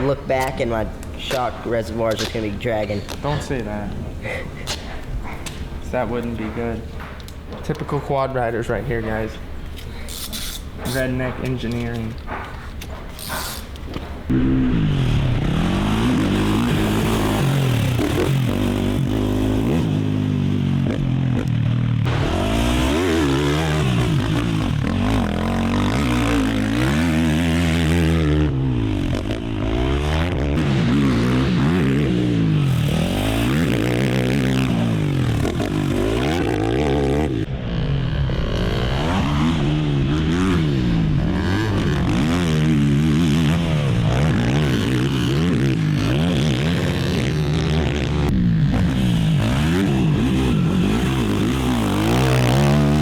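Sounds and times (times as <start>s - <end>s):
quad engine revving: 10.1s - 53.0s.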